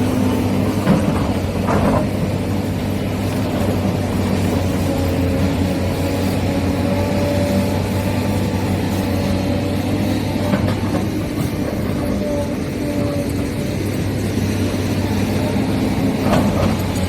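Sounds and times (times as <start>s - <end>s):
toy excavator motor humming: 2.2s - 17.0s.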